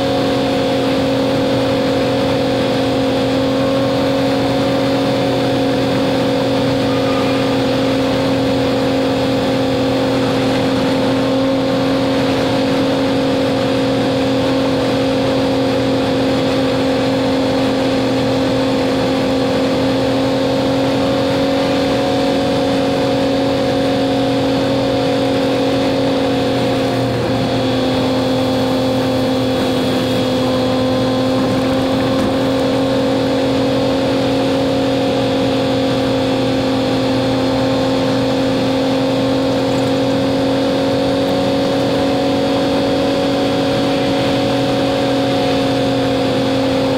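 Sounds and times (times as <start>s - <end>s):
road noise: 0.0s - 46.9s
truck engine droning: 0.0s - 46.9s.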